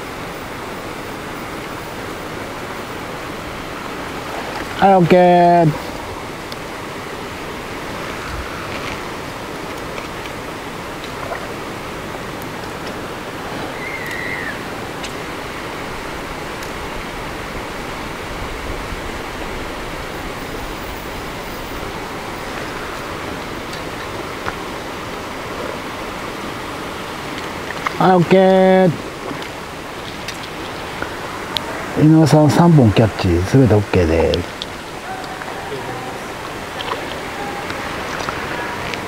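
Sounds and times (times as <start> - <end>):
flowing water rushing: 0.0 - 39.0.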